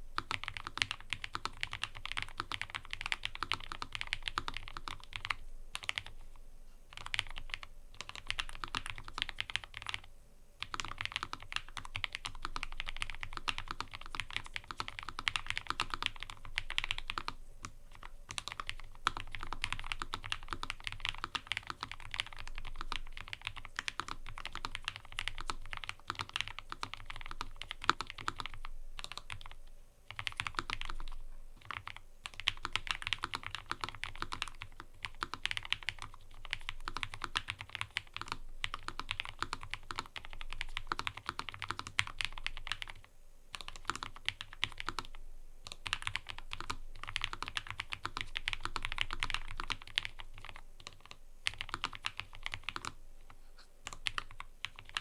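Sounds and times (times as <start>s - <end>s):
typing on mechanical keyboard: 0.2s - 6.2s, 6.9s - 53.0s, 53.8s - 55.0s.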